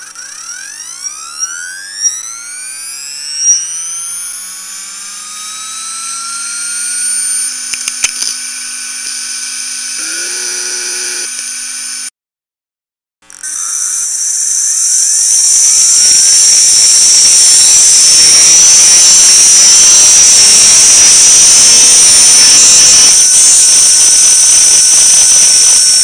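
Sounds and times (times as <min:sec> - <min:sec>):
hard drive spinning up whine: 0:00.0 - 0:12.1, 0:13.3 - 0:26.0.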